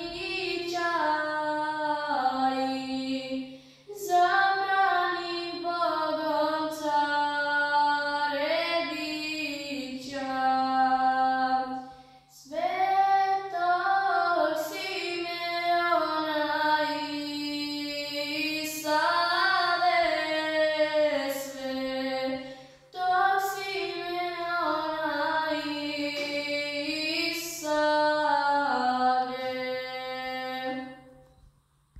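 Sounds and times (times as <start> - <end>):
girl singing unaccompanied: 0.0 - 31.2.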